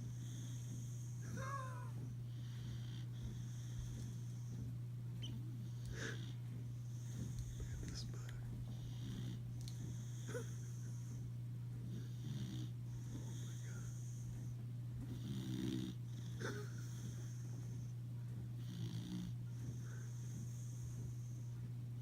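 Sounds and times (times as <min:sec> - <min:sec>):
dog snoring: 0:00.0 - 0:18.0, 0:18.6 - 0:21.7
steady low hum: 0:00.0 - 0:22.0.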